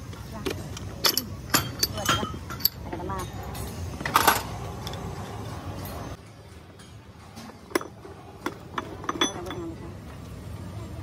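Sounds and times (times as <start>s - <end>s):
steel gears clinking: 0.7s - 9.8s.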